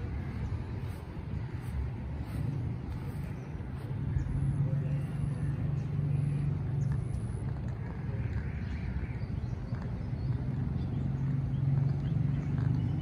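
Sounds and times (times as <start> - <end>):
road traffic engine hum: 0.0 - 13.0.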